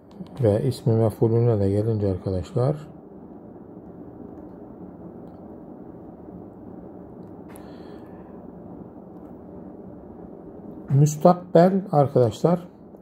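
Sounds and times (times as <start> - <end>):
low hum: 0.0 - 13.0
soft rush of noise: 0.0 - 13.0.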